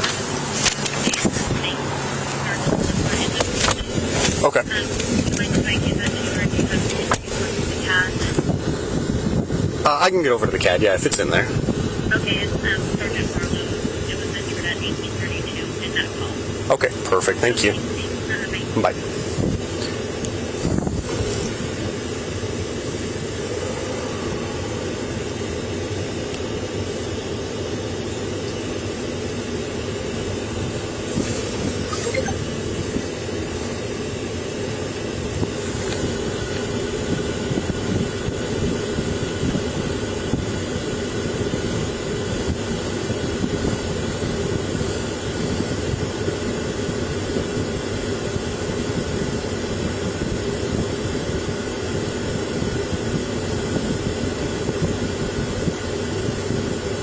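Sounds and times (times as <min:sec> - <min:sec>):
vehicle rumble with hiss: 0:00.0 - 0:32.0, 0:32.6 - 0:57.0.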